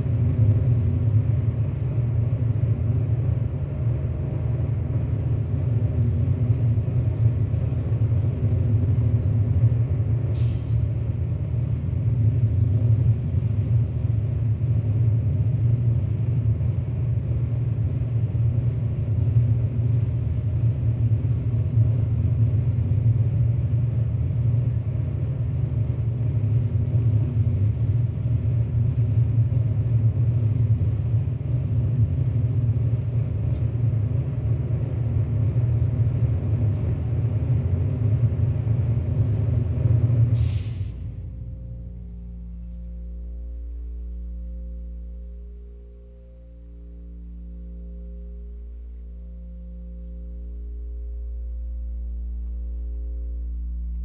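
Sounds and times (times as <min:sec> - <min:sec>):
deep rumbling synthesizer drone: 0:00.0 - 0:54.0.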